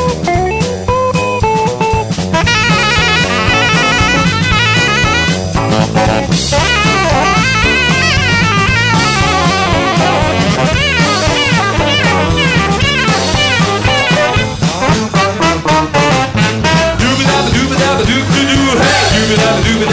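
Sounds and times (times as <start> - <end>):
instrumental music with drums and bass: 0.0 - 19.9.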